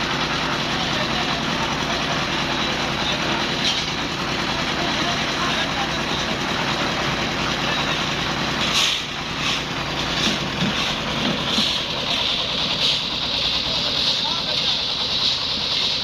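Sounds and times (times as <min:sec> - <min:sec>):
concrete mixer engine running: 0:00.0 - 0:16.0.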